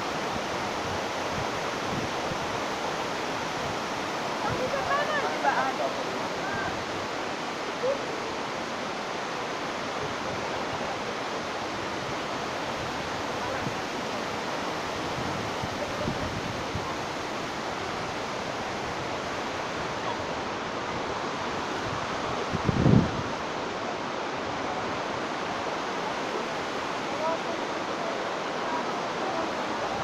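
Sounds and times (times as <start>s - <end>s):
waterfall rushing: 0.0s - 30.0s
wind gusts on microphone: 0.0s - 30.0s.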